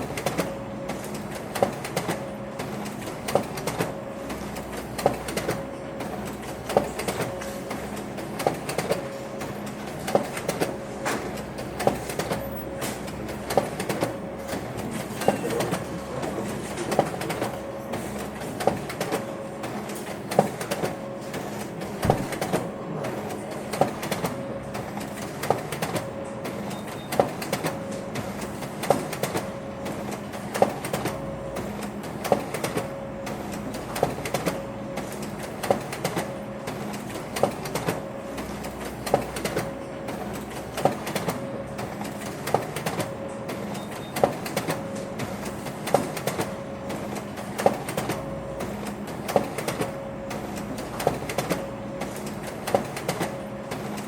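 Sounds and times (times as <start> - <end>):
printer clunking: 0.0 - 54.0
printer humming: 0.0 - 54.0.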